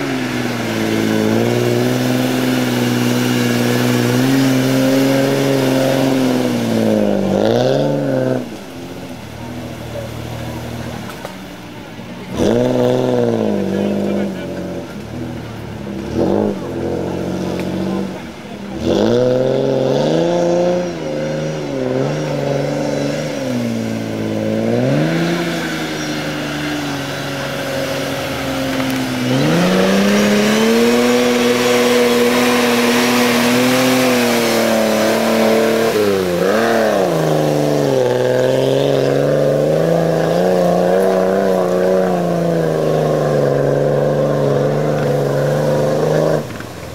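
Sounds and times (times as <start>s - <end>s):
off-road engine revving under load: 0.0s - 46.9s.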